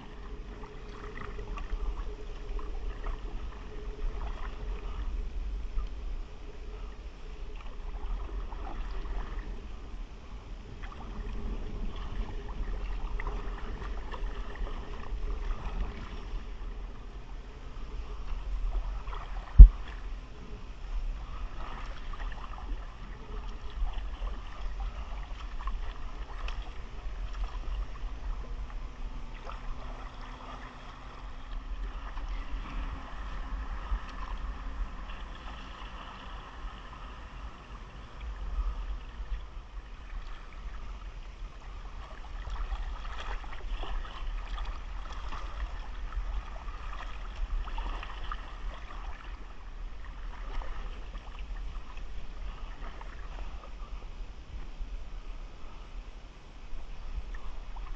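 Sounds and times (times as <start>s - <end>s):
water splashing from paddle strokes: 0.0s - 56.0s
low rumble: 0.0s - 57.9s.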